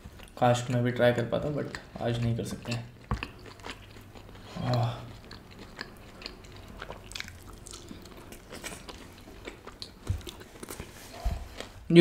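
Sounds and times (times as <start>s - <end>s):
chewing food: 0.0s - 11.8s.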